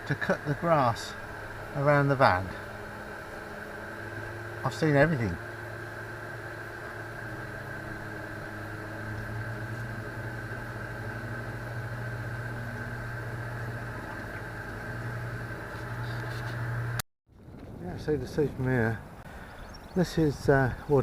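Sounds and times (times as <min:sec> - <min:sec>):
electric lawnmower running: 0:00.0 - 0:17.0.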